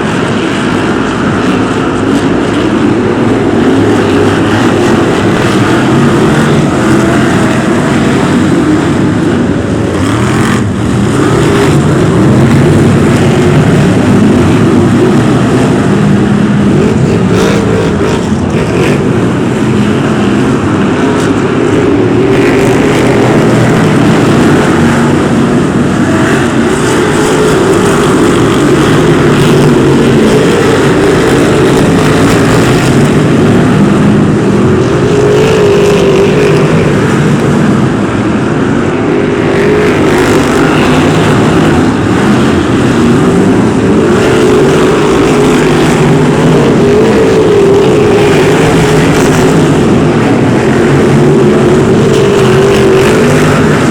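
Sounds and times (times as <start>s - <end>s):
race car engines: 0.0s - 53.9s.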